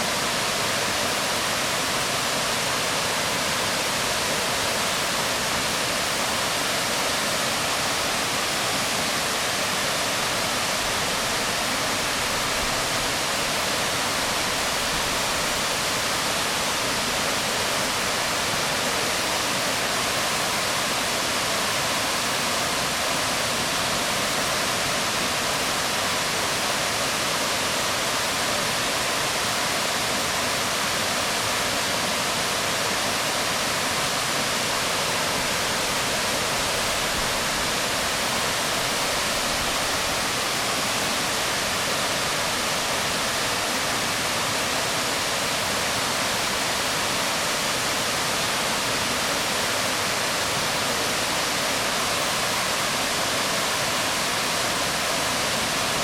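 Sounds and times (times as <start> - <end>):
waterfall crashing onto rocks: 0.0 - 56.0.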